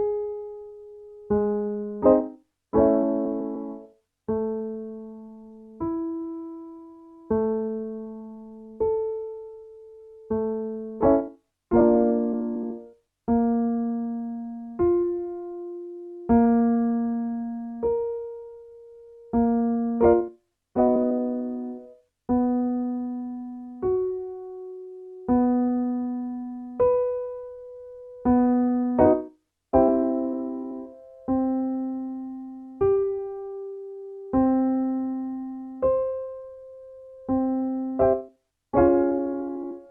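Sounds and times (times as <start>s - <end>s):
piano single notes: 1.2s - 39.9s.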